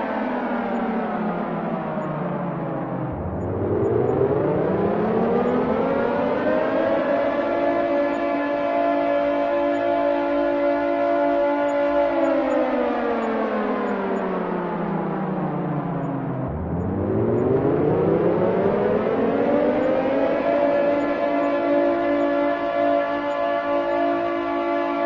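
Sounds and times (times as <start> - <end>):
air raid siren: 0.0 - 25.0.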